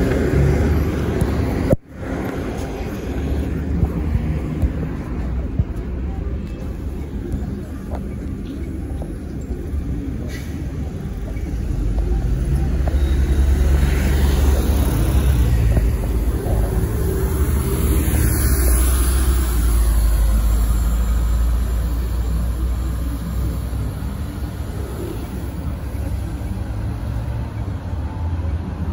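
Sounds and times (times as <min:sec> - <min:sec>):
bus engine rumble: 0:00.0 - 0:28.9.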